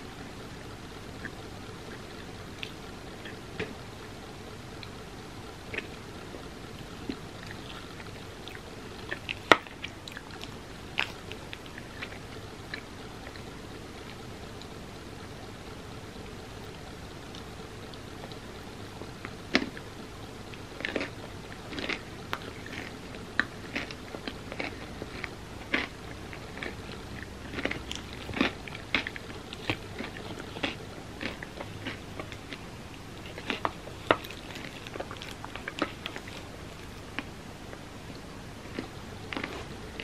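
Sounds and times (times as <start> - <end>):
person chewing and crunching food: 0.1 - 4.1, 5.7 - 15.4, 16.2 - 40.0.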